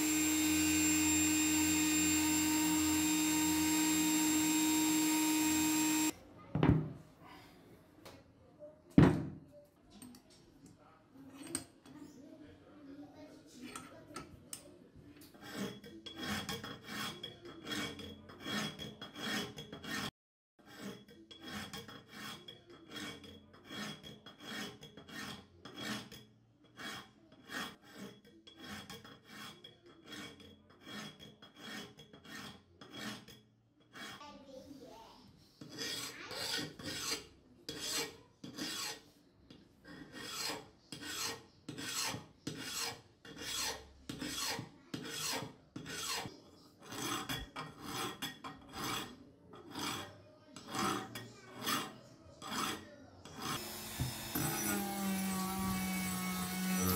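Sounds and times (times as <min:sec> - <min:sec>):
hand file rasping on steel: 0:00.0 - 0:06.1, 0:15.3 - 0:34.3, 0:35.6 - 0:39.1, 0:39.8 - 0:56.9.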